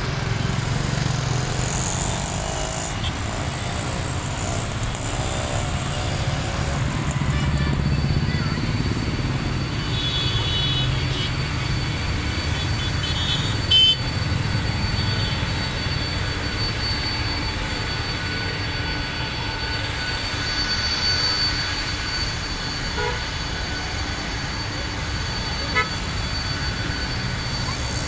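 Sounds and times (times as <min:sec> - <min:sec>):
thin high whine: 0:00.0 - 0:28.0.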